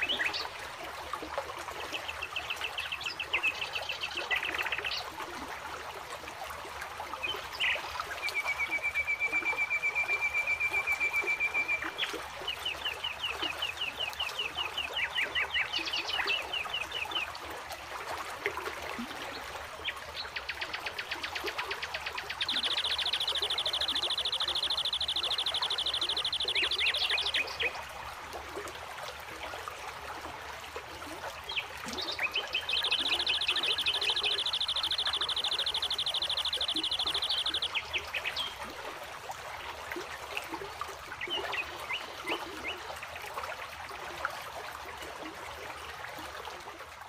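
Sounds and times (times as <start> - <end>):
stream running over rocks: 0.0 - 47.0.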